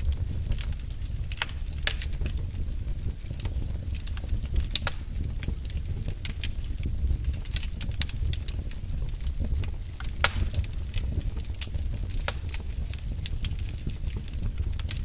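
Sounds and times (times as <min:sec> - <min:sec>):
fire crackling and popping: 0:00.0 - 0:15.0
fire rumbling in a fireplace: 0:00.0 - 0:15.0.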